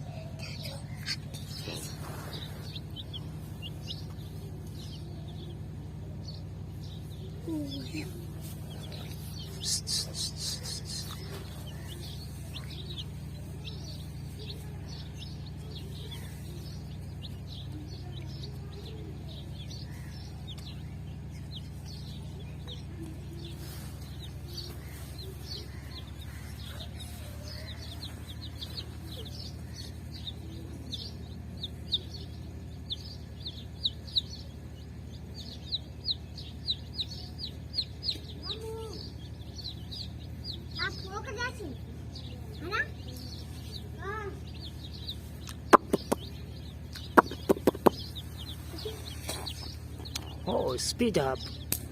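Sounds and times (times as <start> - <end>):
chicks peeping: 0.0 - 51.9
steady low hum: 0.0 - 51.9.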